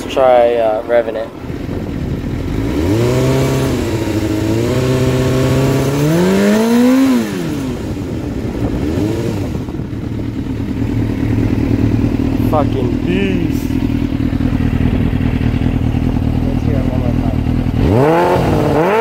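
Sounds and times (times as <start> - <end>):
motorcycle engine revving and idling: 0.0 - 19.0.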